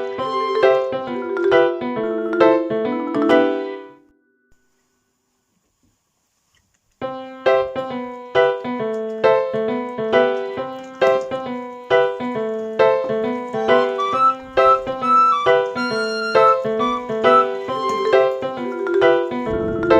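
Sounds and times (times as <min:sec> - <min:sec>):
piano music: 0:00.0 - 0:04.2, 0:07.1 - 0:19.9.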